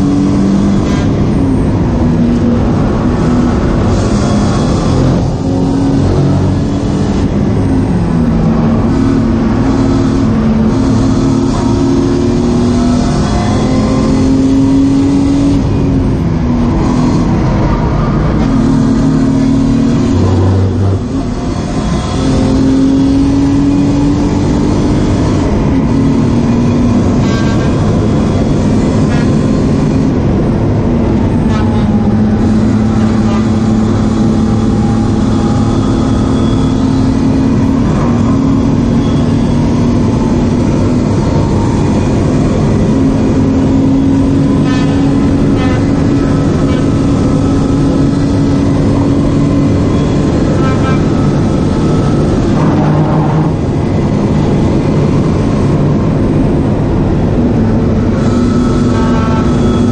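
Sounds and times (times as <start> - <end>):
car engine under load: 0.0 - 59.9
road and tyre noise: 0.0 - 59.9.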